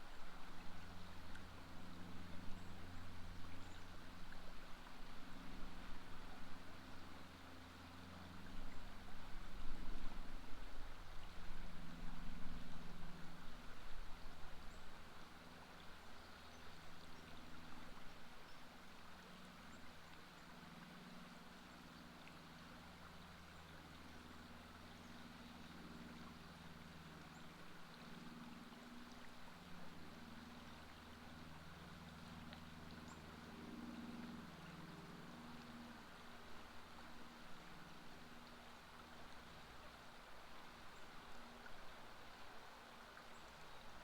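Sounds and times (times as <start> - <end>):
low steady hum: 0.0 - 44.0
river water flowing: 0.0 - 44.0.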